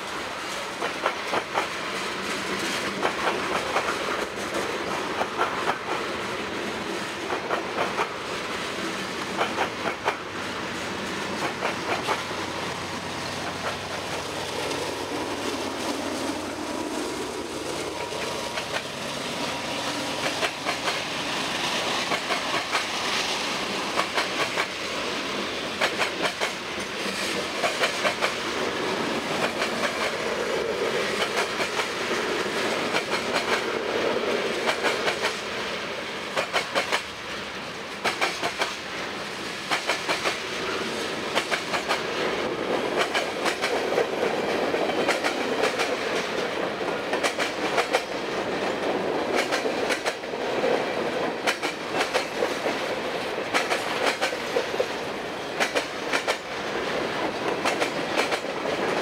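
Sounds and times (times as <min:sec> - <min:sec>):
train wheels clacking over rail joints: 0:00.0 - 0:06.1, 0:06.9 - 0:08.6, 0:09.2 - 0:59.0
train rumble: 0:00.0 - 0:59.0.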